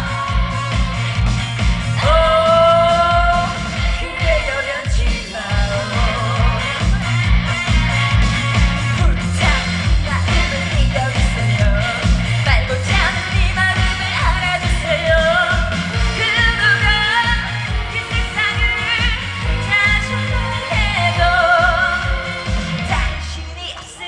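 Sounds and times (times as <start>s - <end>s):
woman singing through a pa: 0.0s - 1.1s, 2.0s - 7.0s, 8.9s - 24.0s
amplified backing track with drum beat: 0.0s - 24.0s.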